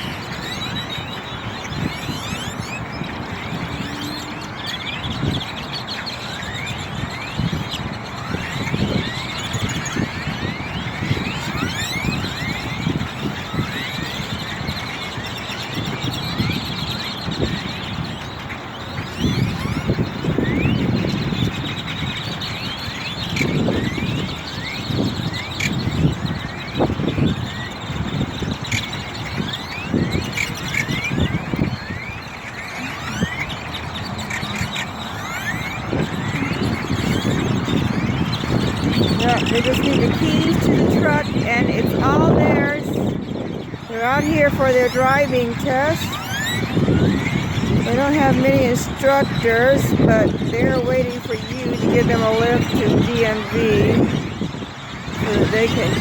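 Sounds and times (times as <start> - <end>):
flock of birds chattering: 0.0 - 56.0.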